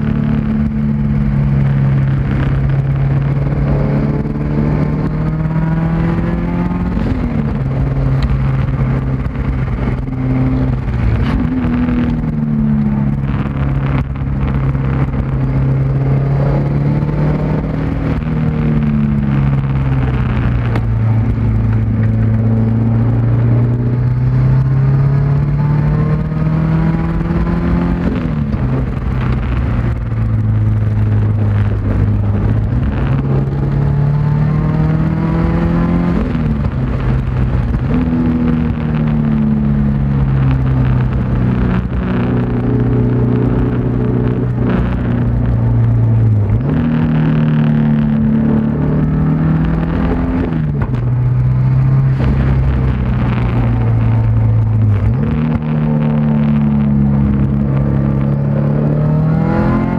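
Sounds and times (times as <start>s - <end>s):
car engine under hard load: 0.0s - 59.9s
tyre and road noise: 0.0s - 59.9s.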